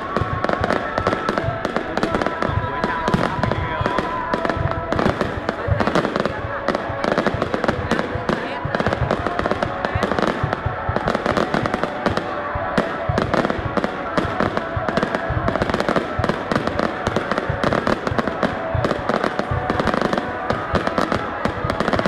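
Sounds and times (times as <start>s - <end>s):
fireworks bangs and crackle: 0.0s - 22.0s.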